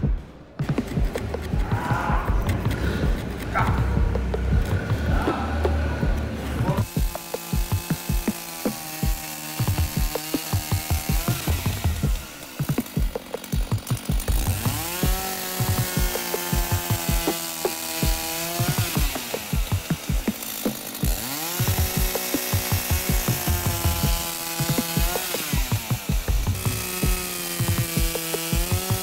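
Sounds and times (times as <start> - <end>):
chainsaw cutting through timber: 0.0 - 29.0.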